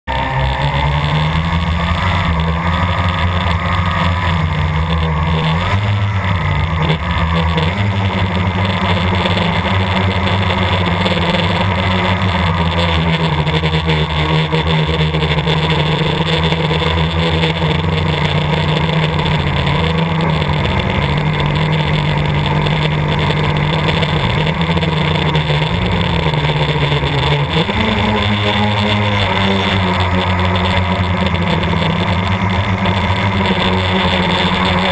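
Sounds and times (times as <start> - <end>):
quadcopter motors buzzing: 0.1 - 34.9.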